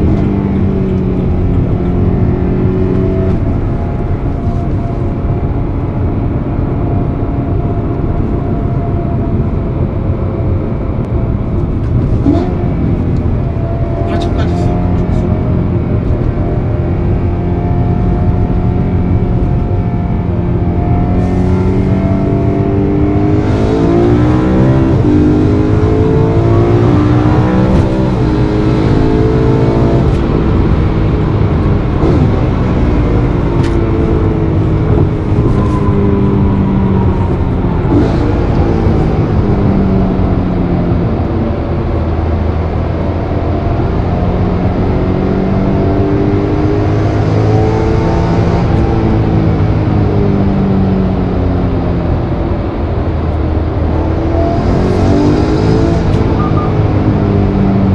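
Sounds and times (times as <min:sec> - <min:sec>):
car engine accelerating in cabin: 0:00.0 - 0:57.9
road and tyre noise: 0:00.0 - 0:57.9.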